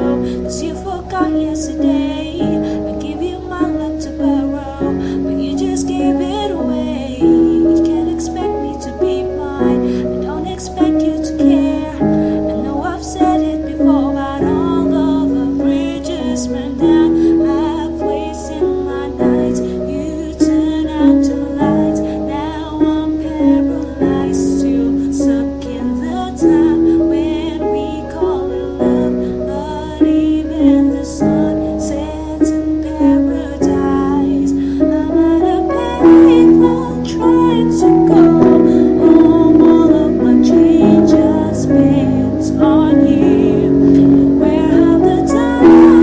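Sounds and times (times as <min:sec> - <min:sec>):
piano chords: 0:00.0 - 0:46.0
woman singing a pop song: 0:00.0 - 0:46.0.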